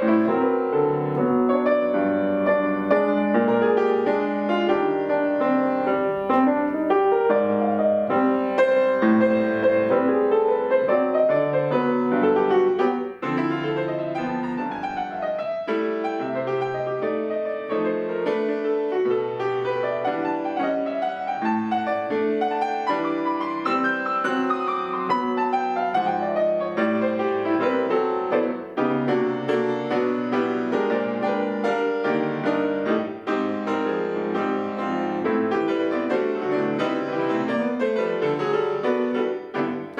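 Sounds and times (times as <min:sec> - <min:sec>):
solo piano piece: 0:00.0 - 0:39.9.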